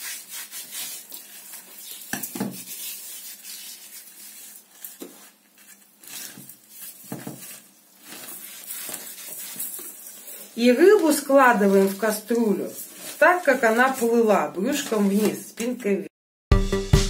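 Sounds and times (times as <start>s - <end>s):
hands rubbing salt into fish: 0.0s - 15.2s.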